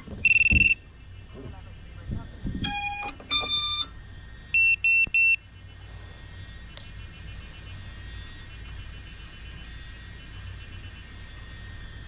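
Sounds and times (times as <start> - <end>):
quadcopter beeping: 0.0 - 12.0.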